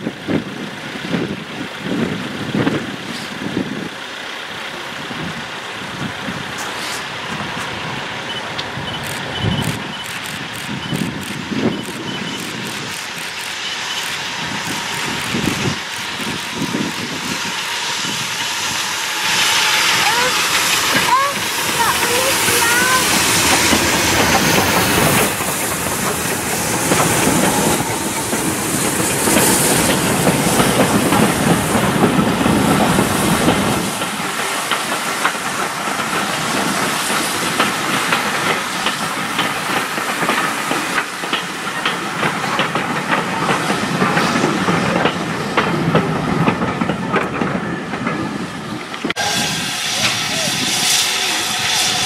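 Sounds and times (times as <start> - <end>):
steam locomotive rumble: 0.0 - 52.0
train wheels clacking over rail joints: 0.1 - 52.0
steam hiss: 0.6 - 46.8, 47.6 - 52.0.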